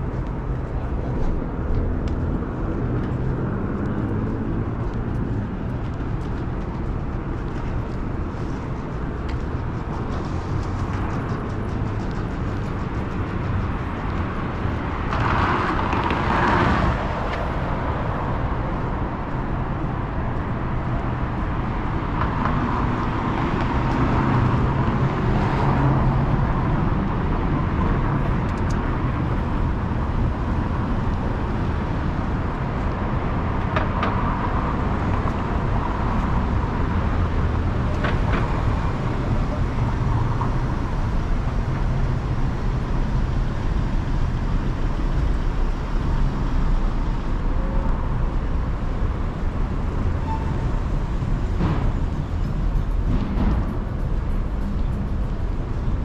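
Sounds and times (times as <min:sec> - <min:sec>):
traffic rumble: 0:00.0 - 0:56.0
vehicles passing: 0:00.0 - 0:56.0.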